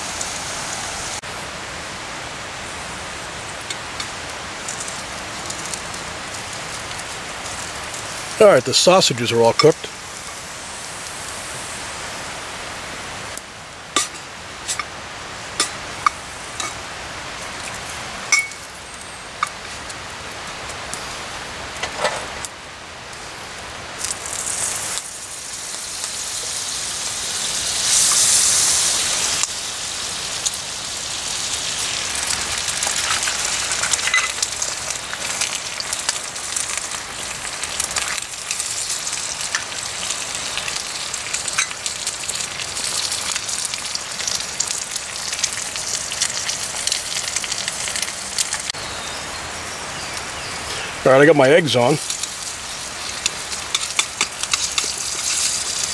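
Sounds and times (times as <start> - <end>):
eggs sizzling in hot fat: 2.4 - 55.9
sausages sizzling in a skillet: 2.4 - 55.9.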